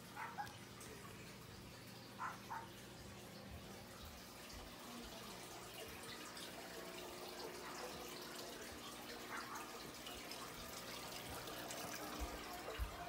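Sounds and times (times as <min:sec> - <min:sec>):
aquarium filter trickling water: 0:00.0 - 0:13.0.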